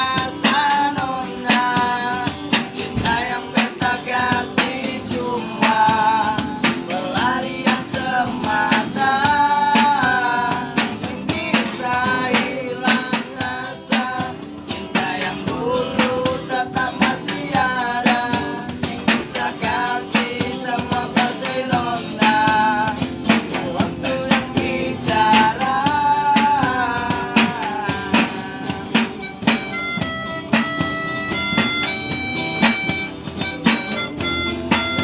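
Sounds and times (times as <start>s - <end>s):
person singing: 0.0s - 30.7s
guitar: 0.0s - 35.0s
steady drum beat: 0.0s - 35.0s.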